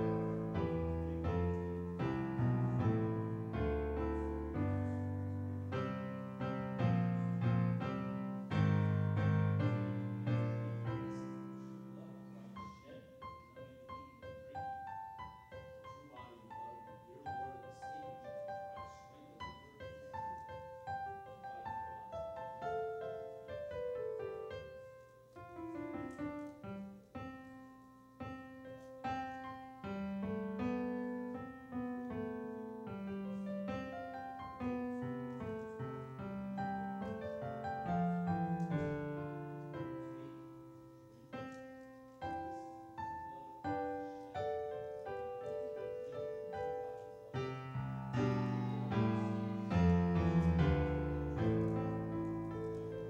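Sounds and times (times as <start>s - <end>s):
slow piano piece: 0.0s - 53.0s.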